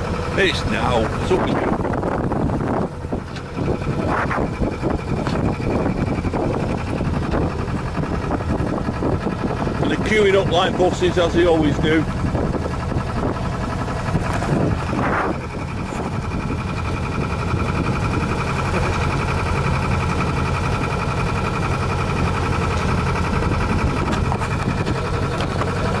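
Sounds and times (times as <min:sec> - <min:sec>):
small boat engine running: 0:00.0 - 0:26.0
rush of noise: 0:00.4 - 0:10.0, 0:14.1 - 0:26.0.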